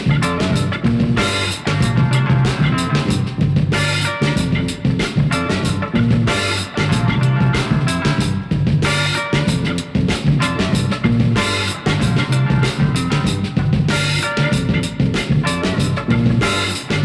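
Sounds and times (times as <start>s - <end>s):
drum kit beat: 0.0s - 17.0s
instrumental funk band playing: 0.0s - 17.0s.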